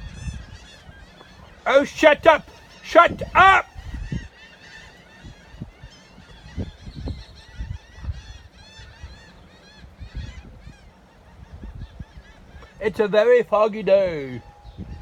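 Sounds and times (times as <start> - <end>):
seagulls calling: 0.0 - 15.0.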